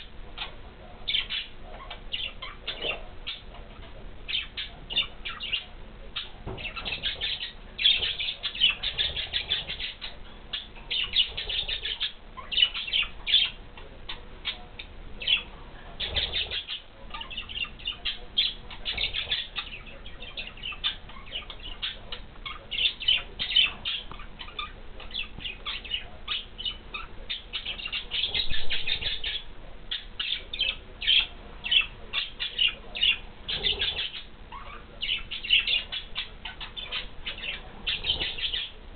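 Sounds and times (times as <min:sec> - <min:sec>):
budgies chattering: 0:00.0 - 0:38.8.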